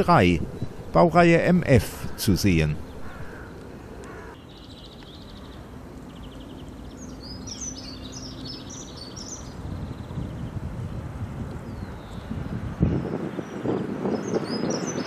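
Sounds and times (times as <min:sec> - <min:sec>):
songbirds trilling and chirping: 0:00.0 - 0:10.8, 0:11.5 - 0:15.0.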